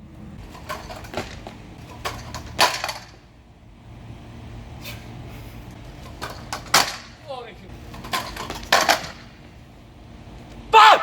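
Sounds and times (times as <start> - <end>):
low steady rumble: 0.0 - 10.7.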